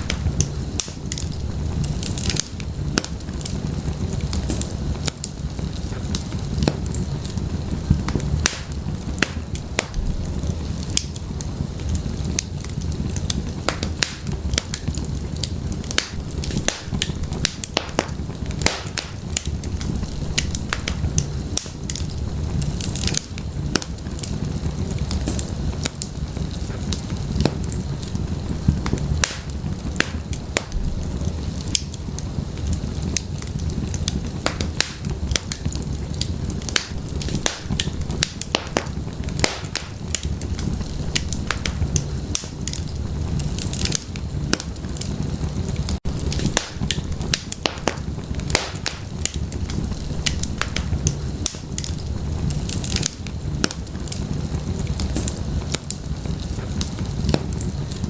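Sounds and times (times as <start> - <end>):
firewood crackling and popping: 0.0 - 58.0
low rumble of flames: 0.0 - 58.0.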